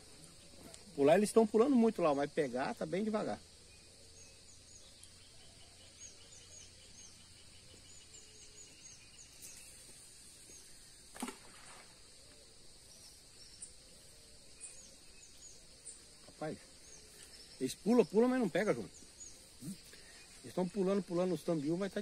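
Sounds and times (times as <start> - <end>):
high insect hum: 0.0 - 22.0
small birds chirping: 0.0 - 22.0.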